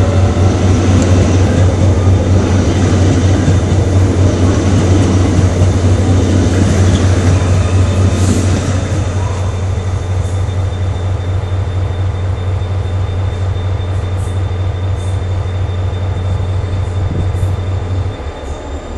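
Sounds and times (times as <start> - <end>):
electric train rumbling: 0.0 - 18.9.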